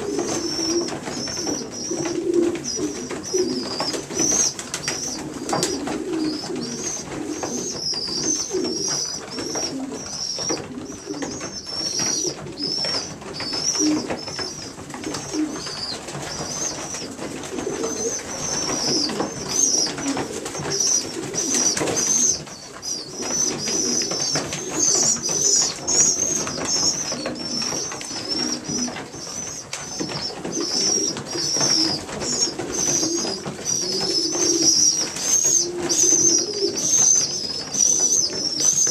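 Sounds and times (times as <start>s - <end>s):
pigeon cooing: 0.0s - 38.9s
young pigeons squeaking: 0.0s - 38.9s.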